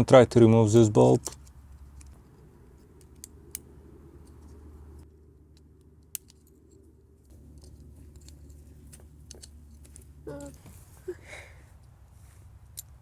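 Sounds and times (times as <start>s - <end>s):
small handling noises: 0.9s - 13.0s.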